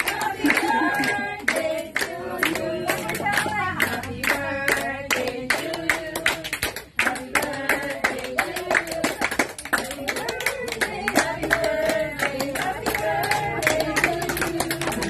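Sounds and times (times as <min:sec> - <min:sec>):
group singing birthday song: 0:00.0 - 0:15.0
hands clapping in rhythm: 0:00.0 - 0:15.0.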